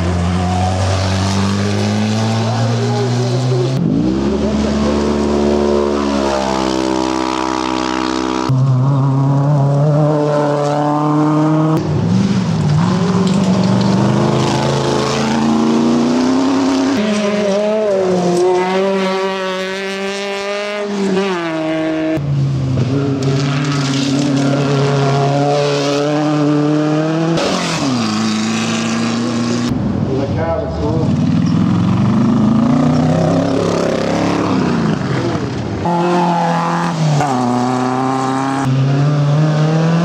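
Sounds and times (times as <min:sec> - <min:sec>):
race buggy engines revving: 0:00.0 - 0:40.0.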